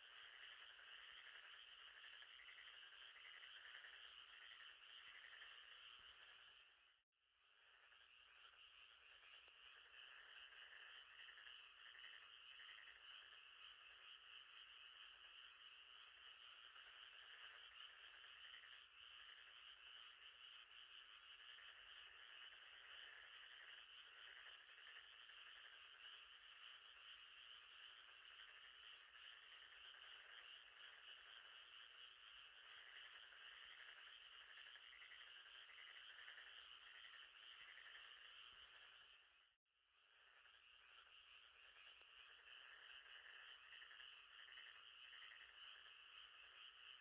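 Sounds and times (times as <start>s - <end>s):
frogs calling: 0.0s - 6.8s, 7.6s - 39.5s, 40.1s - 47.0s.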